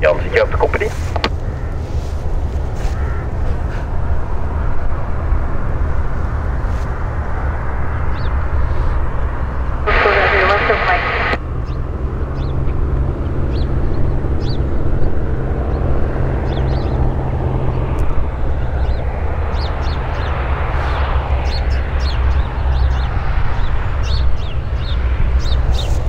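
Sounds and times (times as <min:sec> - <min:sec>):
birds chirping: 0:00.0 - 0:04.1, 0:07.8 - 0:26.0
propeller plane engine droning: 0:00.0 - 0:26.0.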